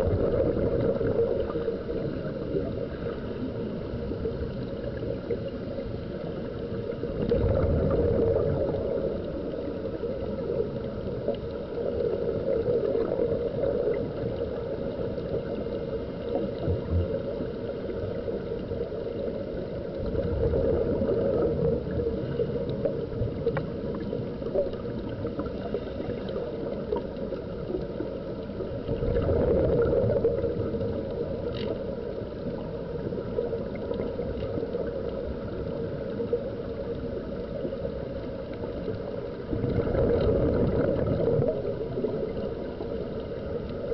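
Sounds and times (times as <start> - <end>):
faint steady hum: 0.0 - 43.9
underwater air bubbling: 0.0 - 43.9.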